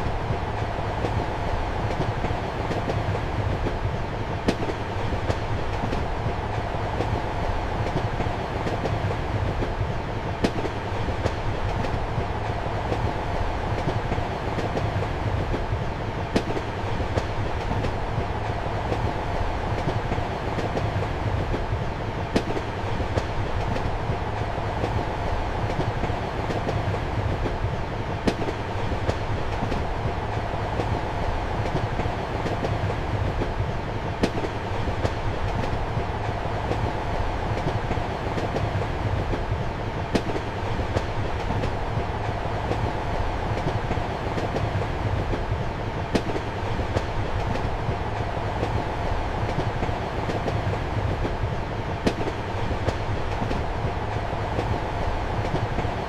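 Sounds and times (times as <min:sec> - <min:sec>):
train rumble and hum: 0:00.0 - 0:56.0.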